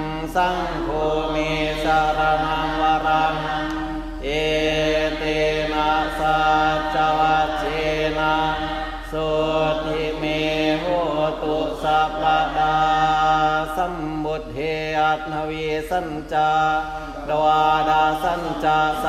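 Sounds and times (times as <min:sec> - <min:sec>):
people chanting in unison: 0:00.0 - 0:19.0.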